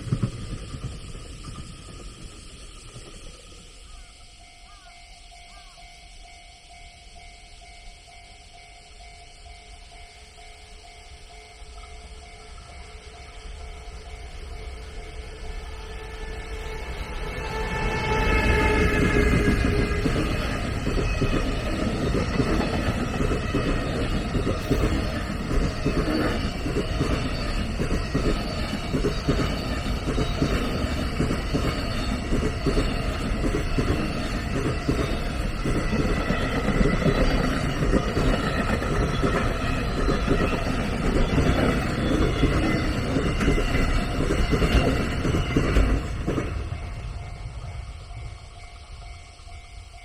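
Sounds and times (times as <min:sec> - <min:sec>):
train wheels clattering on rails: 0:00.0 - 0:05.8, 0:08.9 - 0:50.0.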